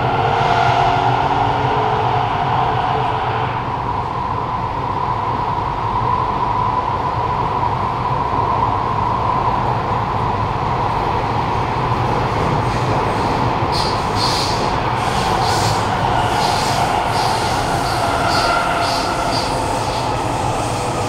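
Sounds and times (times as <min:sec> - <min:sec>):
train rumble and rolling noise: 0:00.0 - 0:21.0.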